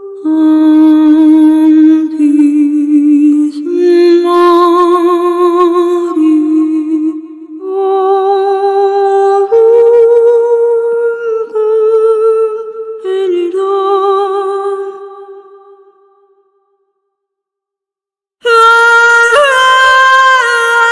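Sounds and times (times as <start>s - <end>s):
woman singing long held notes: 0.0s - 15.7s, 18.4s - 20.9s.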